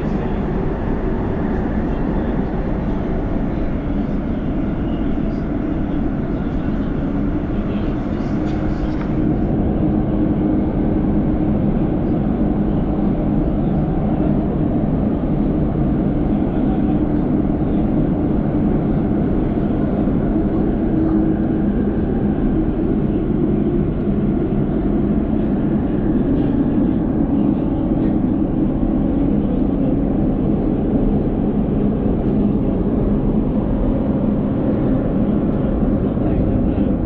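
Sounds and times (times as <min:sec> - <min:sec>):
train rumbling in tunnel: 0:00.0 - 0:37.0.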